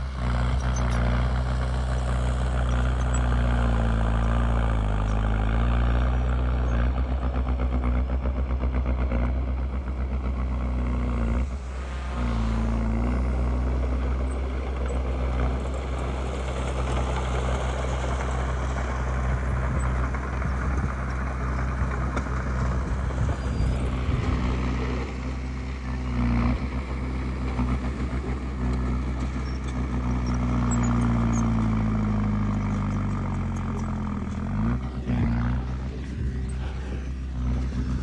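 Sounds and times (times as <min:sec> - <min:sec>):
bulldozer diesel engine clattering: 0:00.0 - 0:38.0.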